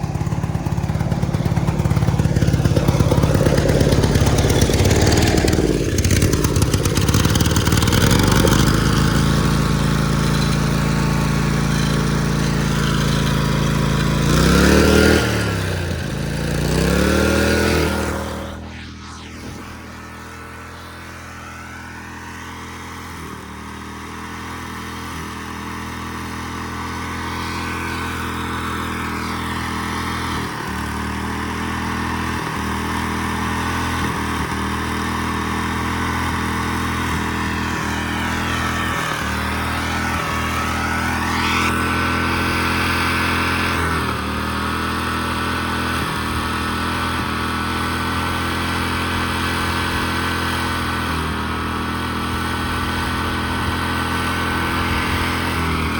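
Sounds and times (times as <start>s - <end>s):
tractor engine at full throttle: 0.0s - 55.9s.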